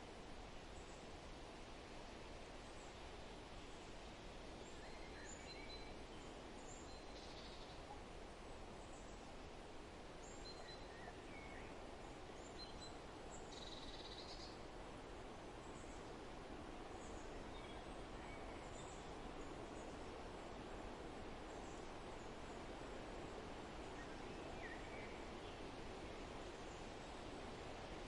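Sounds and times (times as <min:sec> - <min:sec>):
background hiss: 0:00.0 - 0:28.0.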